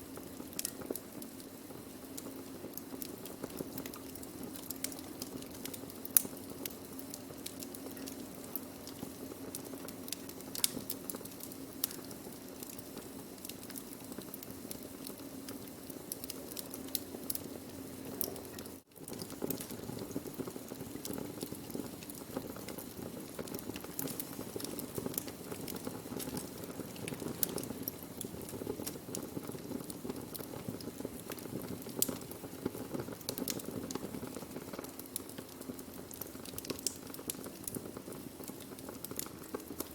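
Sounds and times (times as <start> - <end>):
hissing flames: 0.0 - 39.9
wood crackling and popping: 0.0 - 39.9.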